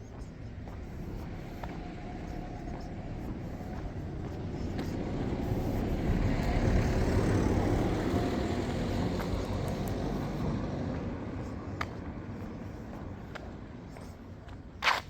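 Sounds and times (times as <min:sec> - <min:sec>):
vehicle passing by: 0:00.8 - 0:13.2.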